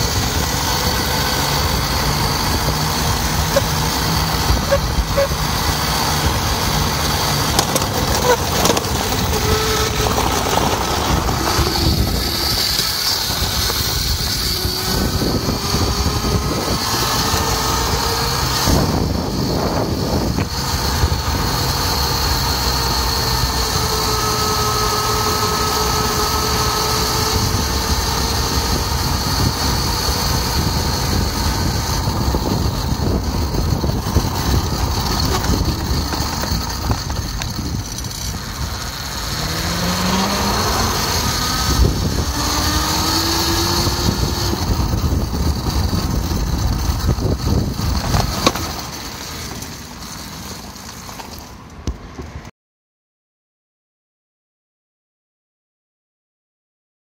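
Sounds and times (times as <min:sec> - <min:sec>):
wind noise: 0:00.0 - 0:49.7
electric motor whine: 0:00.0 - 0:51.3
tyres rumbling on pavement: 0:00.0 - 0:52.5.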